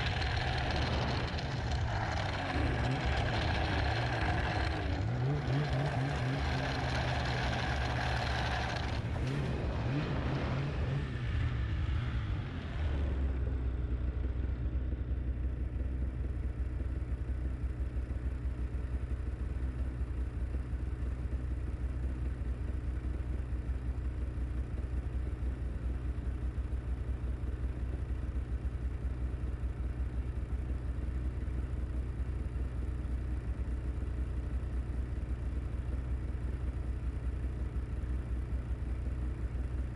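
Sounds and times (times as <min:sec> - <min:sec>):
snowmobile engine revving and idling: 0:00.0 - 0:39.9.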